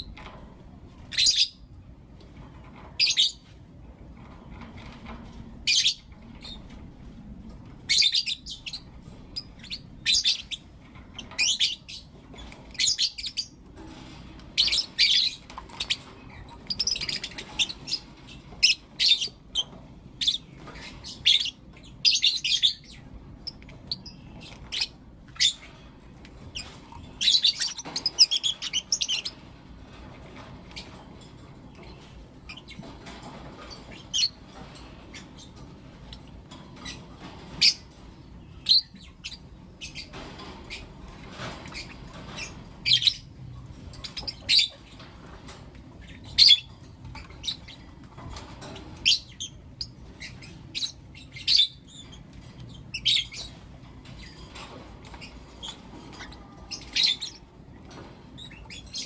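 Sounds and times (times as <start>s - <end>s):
lovebirds chirping: 1.0s - 1.8s, 5.6s - 6.8s, 7.7s - 59.0s.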